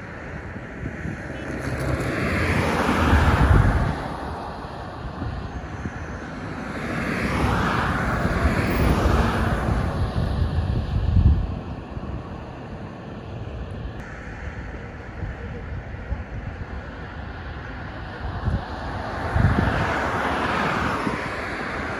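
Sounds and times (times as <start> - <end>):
cars passing on highway: 0.0 - 21.9
wind rumbling on microphone: 0.0 - 21.9.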